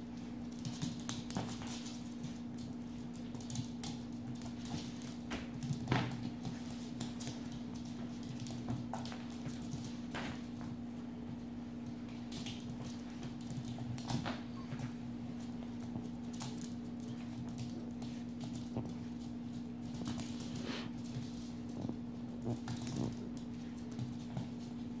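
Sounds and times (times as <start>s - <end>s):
puppy scrabbling on wooden floor: 0.2s - 25.0s.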